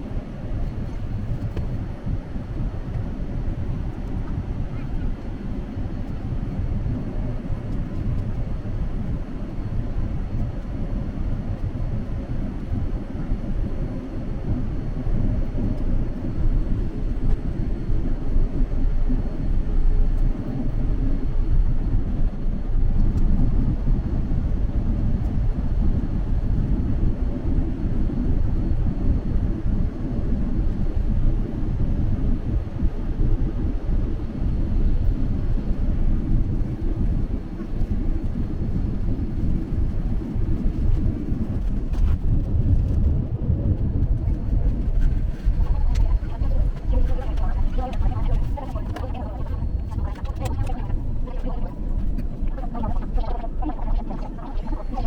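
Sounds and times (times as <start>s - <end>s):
jet cabin engine rumble: 0.0s - 55.0s.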